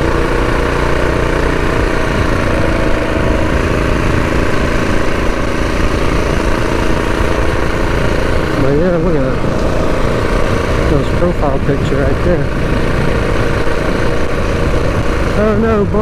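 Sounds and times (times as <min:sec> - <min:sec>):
mini bike engine running: 0:00.0 - 0:16.0.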